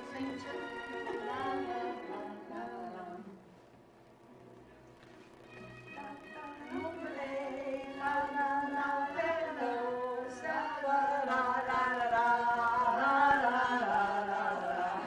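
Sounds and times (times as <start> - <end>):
women singing together: 0.0 - 3.5, 6.0 - 15.0.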